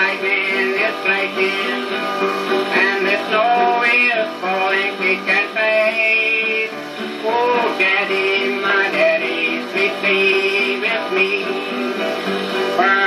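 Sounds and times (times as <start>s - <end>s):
strummed guitar: 0.0s - 13.0s.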